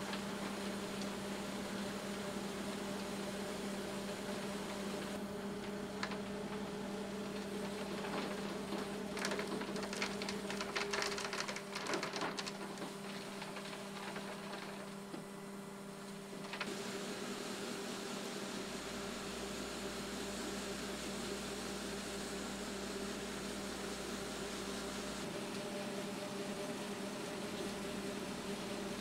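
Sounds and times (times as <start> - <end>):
concrete mixer truck engine hum: 0.0 - 29.0.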